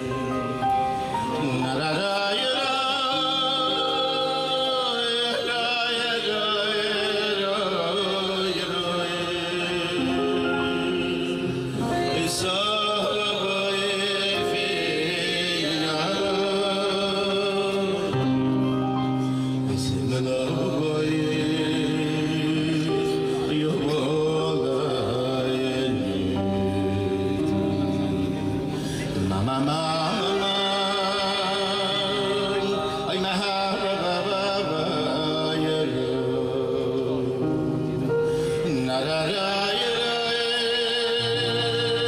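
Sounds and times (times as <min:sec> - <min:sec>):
men singing: 0:00.0 - 0:18.4, 0:19.6 - 0:42.0
instrumental accompaniment: 0:00.0 - 0:42.0.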